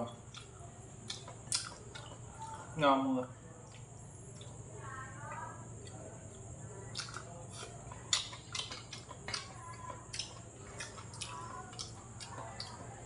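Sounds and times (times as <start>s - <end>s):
steady low hum: 0.0s - 13.0s
wet chewing and lip smacks: 0.2s - 2.7s, 3.6s - 4.6s, 5.8s - 13.0s.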